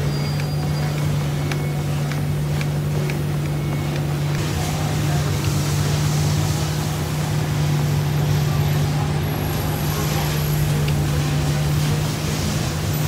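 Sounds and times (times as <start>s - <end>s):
mechanical drone with low hum: 0.0s - 13.0s.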